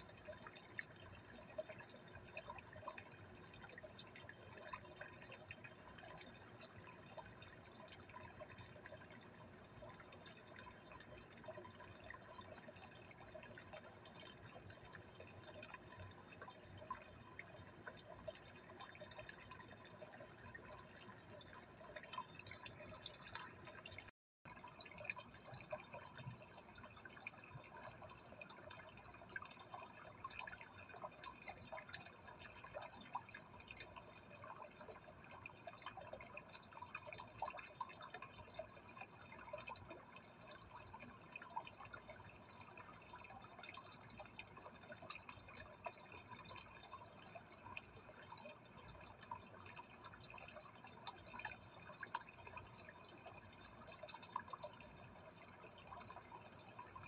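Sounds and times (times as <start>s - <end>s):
aquarium water trickling: 0.0s - 57.0s
water drips and bubble ticks: 0.0s - 57.0s.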